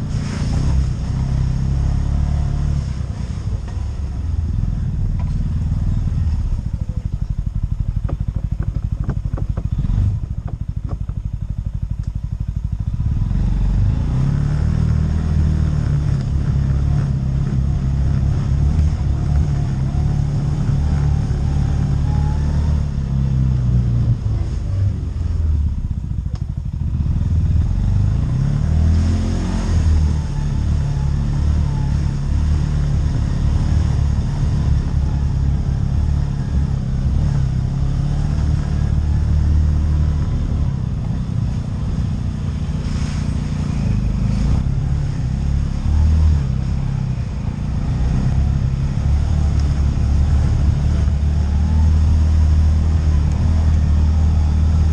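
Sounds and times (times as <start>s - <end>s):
atv engine revving: 0.0s - 11.3s, 12.0s - 54.9s.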